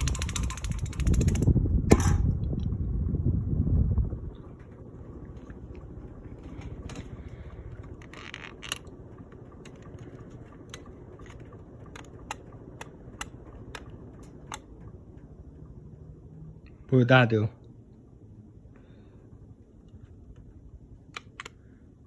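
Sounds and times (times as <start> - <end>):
ceiling fan whirring: 0.0 - 22.0.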